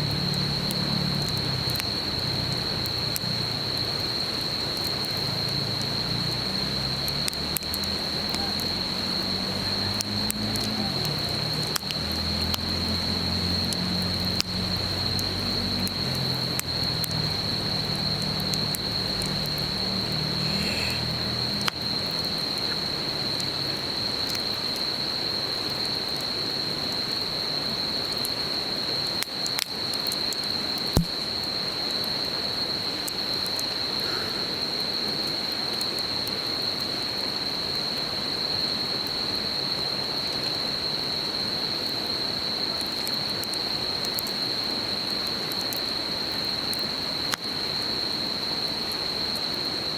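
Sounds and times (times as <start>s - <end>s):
campfire crackling and popping: 0.0s - 25.0s, 29.0s - 37.1s, 42.5s - 49.6s
insects droning: 0.0s - 49.9s.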